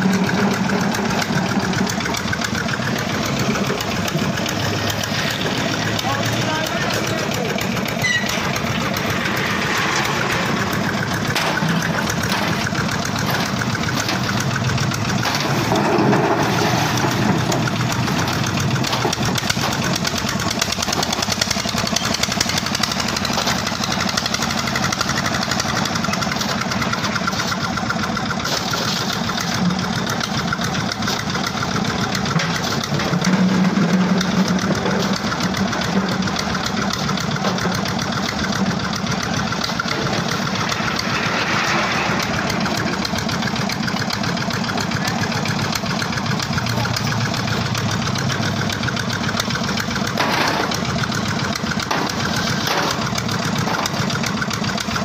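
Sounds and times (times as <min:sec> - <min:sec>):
diesel engine knocking steadily: 0:00.0 - 0:55.0.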